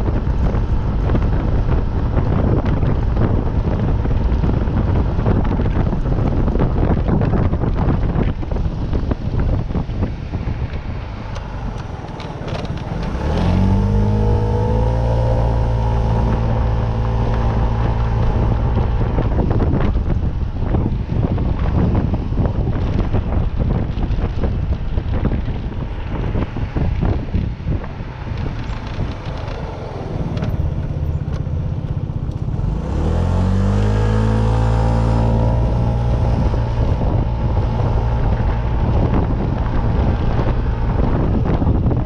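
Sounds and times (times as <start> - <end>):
vehicle engine drone: 0.0 - 42.0
wind rushing on microphone: 0.0 - 42.0.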